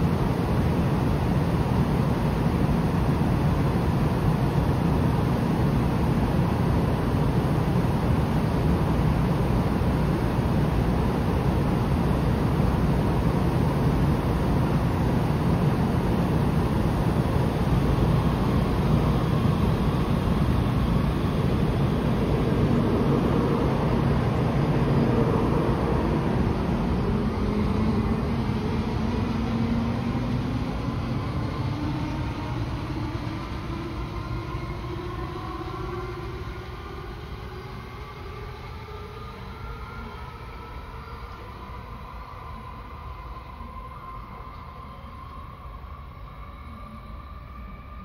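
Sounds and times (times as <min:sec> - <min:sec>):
rising train whine: 0:00.0 - 0:48.0
train running noise: 0:00.0 - 0:48.0.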